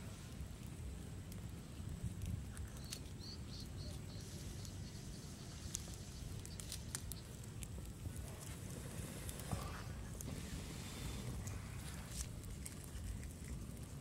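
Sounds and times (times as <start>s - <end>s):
burning twigs snapping: 0.0s - 10.4s, 11.2s - 14.0s
low outdoor rumble: 0.0s - 14.0s
wood fire crackling: 0.0s - 14.0s.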